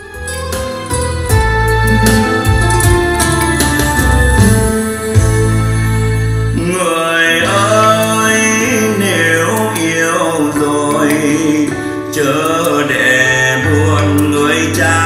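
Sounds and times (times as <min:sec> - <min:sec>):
song with singer over instruments: 0:00.0 - 0:15.0.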